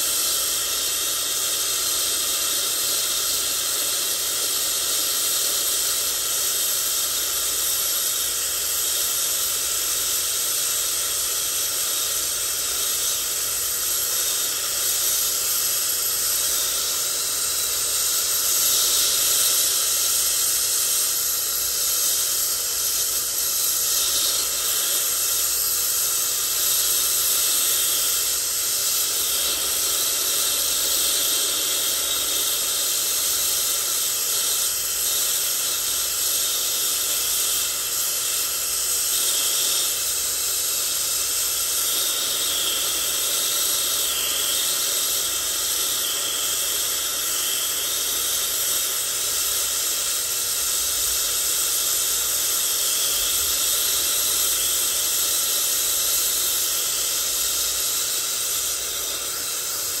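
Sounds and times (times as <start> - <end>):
torch flame hissing: 0.0 - 60.0.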